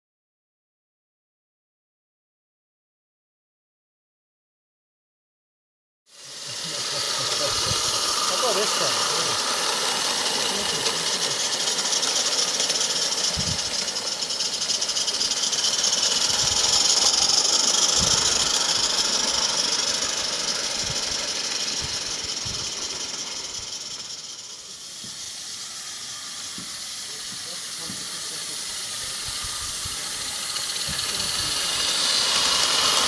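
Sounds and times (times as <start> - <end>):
steam locomotives hissing: 6.1 - 33.0.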